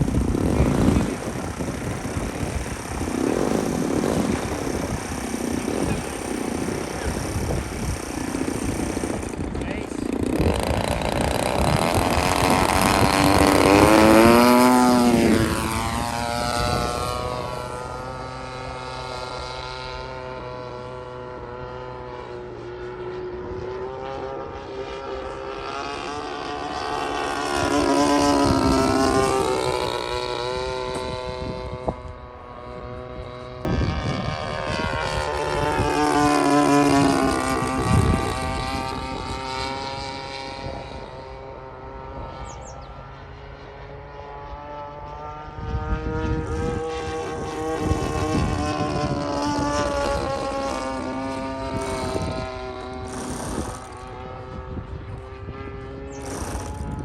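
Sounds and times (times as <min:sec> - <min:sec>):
model airplane engine passing: 0:00.0 - 0:57.0.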